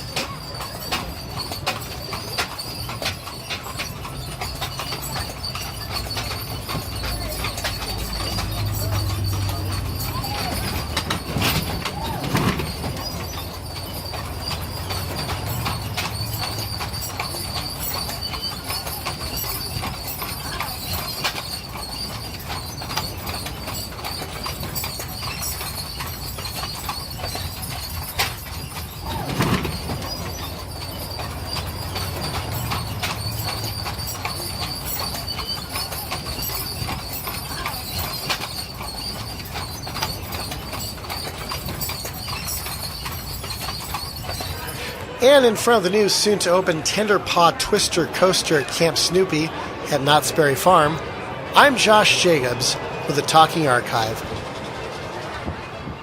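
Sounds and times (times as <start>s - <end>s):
horses' hooves clip-clopping: 0.0s - 50.9s
coach rattling: 0.0s - 56.0s
wheels rumbling: 0.0s - 56.0s.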